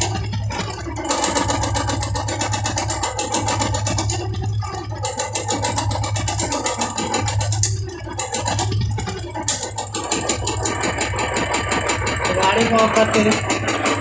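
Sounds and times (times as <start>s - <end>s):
fast ticking inside engine: 0.0s - 14.0s
motorcycle engine running: 0.0s - 14.0s.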